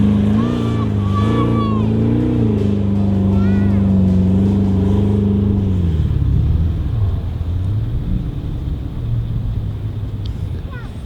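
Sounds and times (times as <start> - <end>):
engine running at high revs: 0.0 - 11.0.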